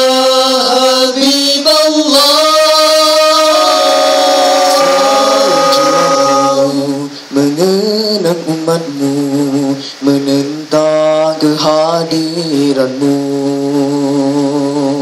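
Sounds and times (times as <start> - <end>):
male vocal group singing in harmony: 0.0 - 15.0.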